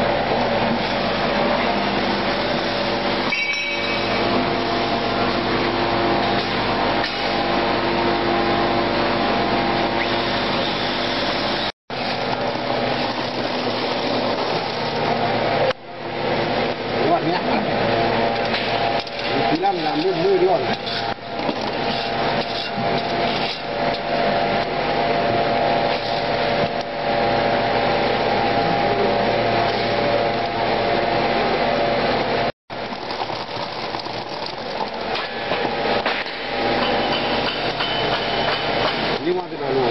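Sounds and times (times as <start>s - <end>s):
roaster machine whooshing and humming: 0.0s - 39.9s.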